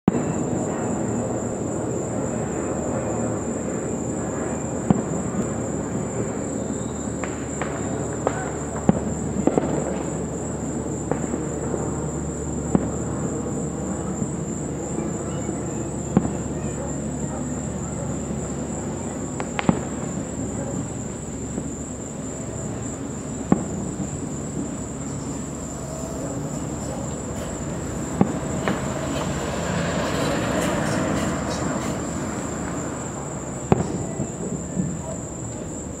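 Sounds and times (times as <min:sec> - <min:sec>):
background hiss: 0:00.1 - 0:36.0
distant fireworks bursting: 0:00.1 - 0:36.0.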